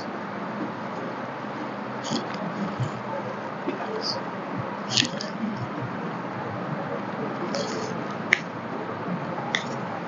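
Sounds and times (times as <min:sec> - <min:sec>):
room hiss: 0:00.0 - 0:10.0.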